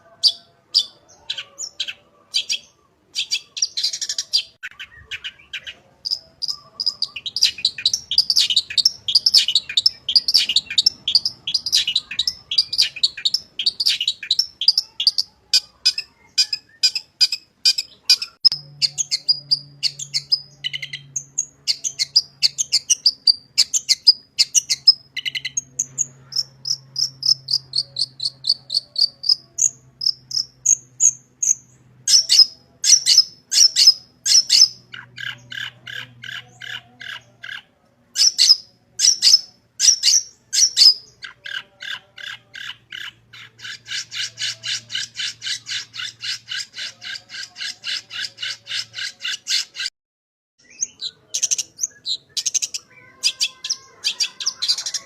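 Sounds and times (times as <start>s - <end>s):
bird singing varied song: 0.0s - 49.9s, 50.6s - 55.0s.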